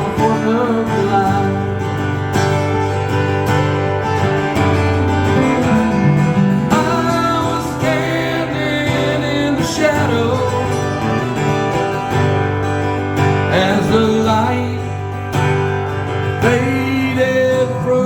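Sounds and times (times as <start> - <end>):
acoustic guitar strumming: 0.0 - 18.0
bending lead guitar melody: 0.0 - 18.0.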